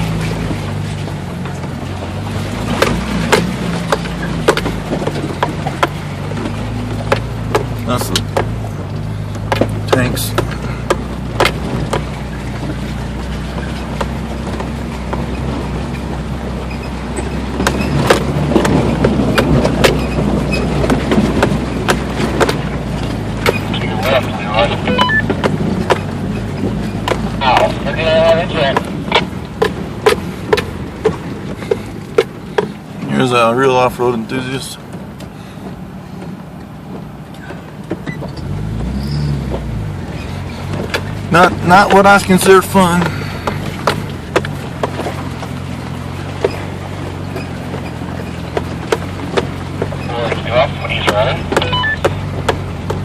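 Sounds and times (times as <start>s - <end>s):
clicks and knocks from rocky road: 0.0s - 53.0s
engine and drivetrain drone: 0.0s - 53.0s.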